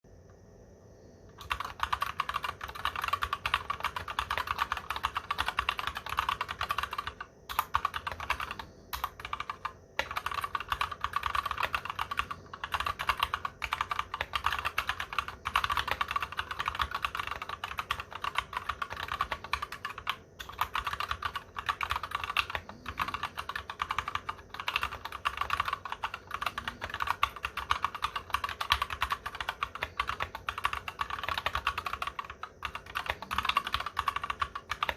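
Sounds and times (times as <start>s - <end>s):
mechanical keyboard typing: 1.3s - 34.9s.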